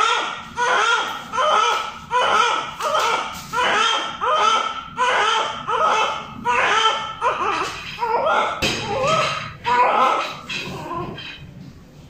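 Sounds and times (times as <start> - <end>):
newborn baby crying: 0.0 - 11.4.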